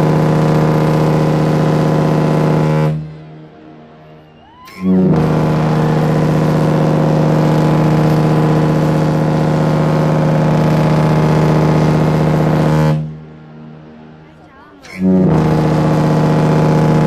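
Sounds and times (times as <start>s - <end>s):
ship's horn blast: 0.0s - 17.0s.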